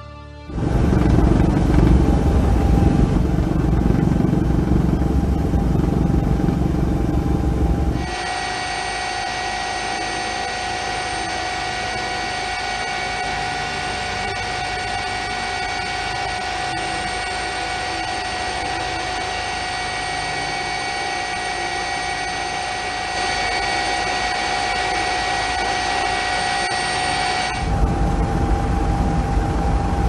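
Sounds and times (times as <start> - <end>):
helicopter engine and rotor: 0.5 - 30.0
high turbine whine: 0.5 - 30.0.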